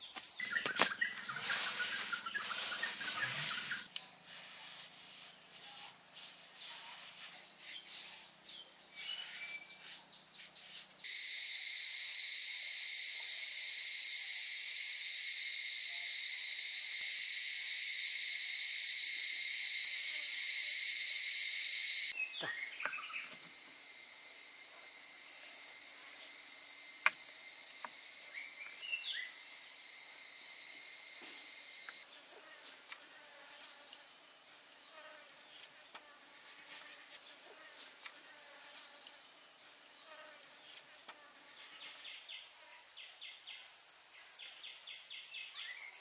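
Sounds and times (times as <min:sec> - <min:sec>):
insects buzzing: 0:00.0 - 0:46.0
loud insect drone: 0:00.0 - 0:46.0.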